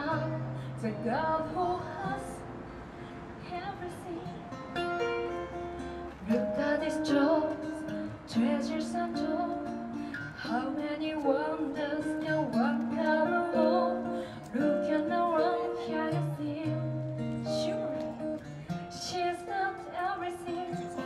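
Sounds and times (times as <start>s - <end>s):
woman singing into a microphone: 0.0s - 2.6s, 3.2s - 4.6s, 6.1s - 21.0s
acoustic guitar: 0.0s - 21.0s.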